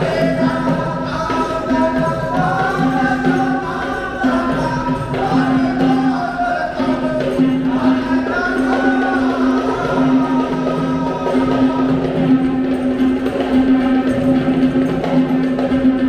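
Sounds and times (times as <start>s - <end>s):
voices singing chant-like melody: 0.0s - 16.0s.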